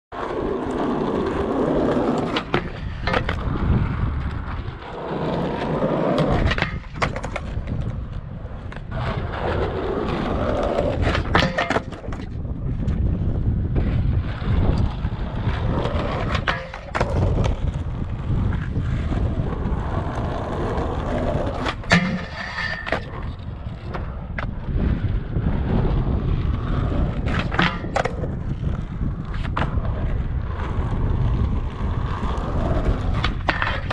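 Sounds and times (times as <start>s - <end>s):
skateboard wheels rolling on concrete: 0.1s - 33.9s
skateboard clacking on ground: 0.2s - 33.9s.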